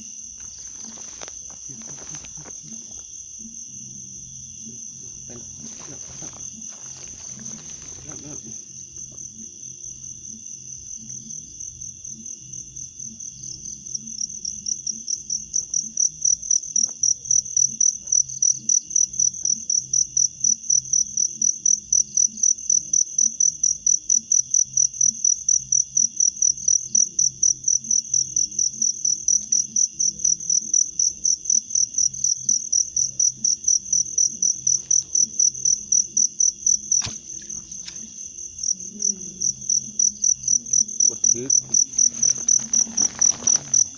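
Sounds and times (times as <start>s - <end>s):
insect chirping trill: 0.0s - 43.9s.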